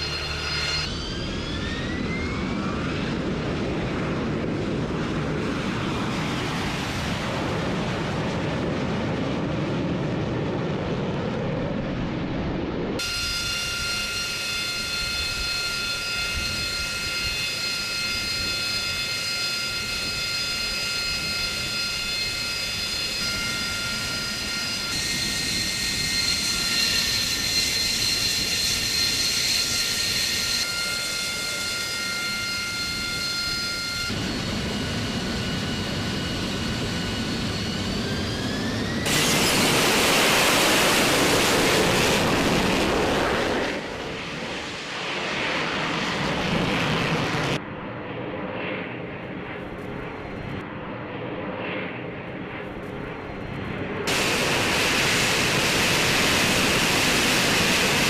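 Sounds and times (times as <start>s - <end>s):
jet engine whine: 0.0s - 58.0s
jet roar: 0.0s - 58.0s.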